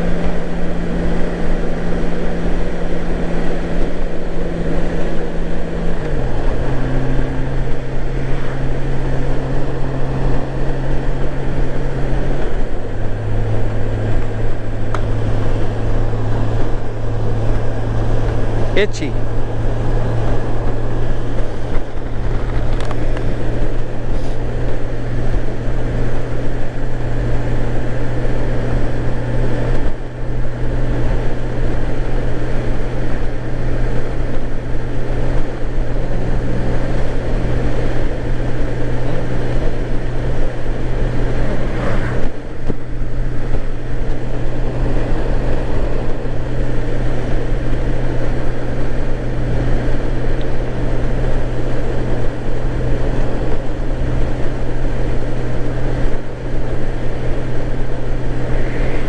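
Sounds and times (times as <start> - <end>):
motorcycle engine drone: 0.0 - 59.0
wind and road noise: 0.0 - 59.0.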